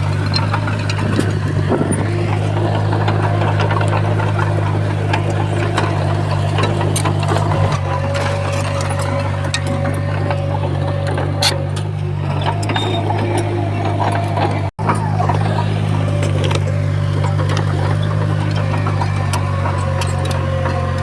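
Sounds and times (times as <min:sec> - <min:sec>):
diesel engine running: 0:00.0 - 0:21.0
metal clicks and clanks: 0:00.0 - 0:21.0.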